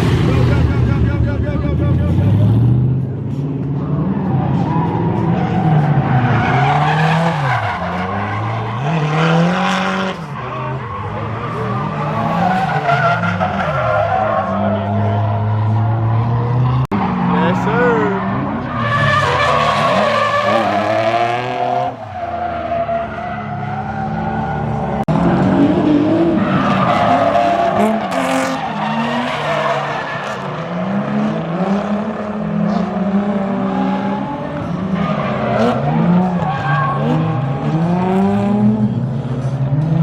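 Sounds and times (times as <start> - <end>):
car engine revving: 0.0 - 40.0
tyres squealing and skidding: 3.8 - 38.3.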